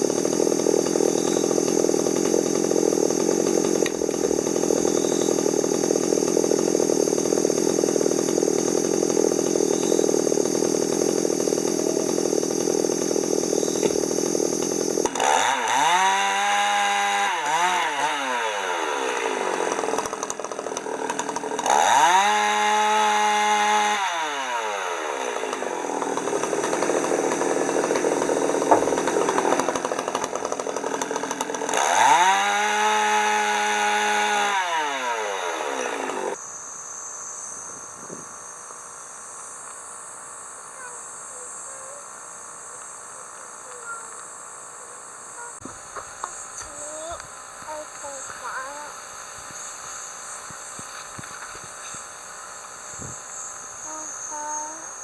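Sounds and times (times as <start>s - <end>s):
chainsaw running and revving: 0.0s - 55.0s.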